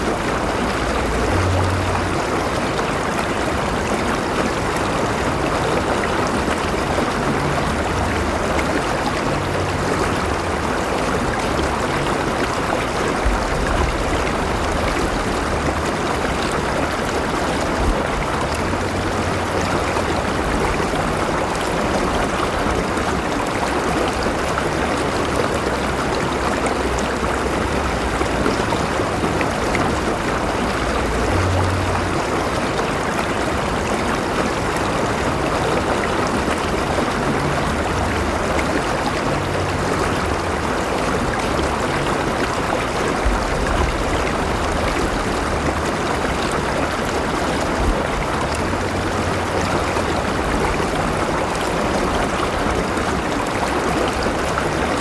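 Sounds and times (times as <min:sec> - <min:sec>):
river rushing and gurgling: 0:00.0 - 0:55.0.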